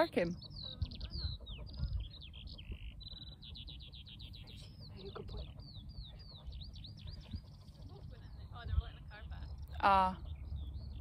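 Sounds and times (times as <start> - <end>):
songbird singing trills: 0.0 - 11.0
wind rumble on microphone: 0.0 - 11.0.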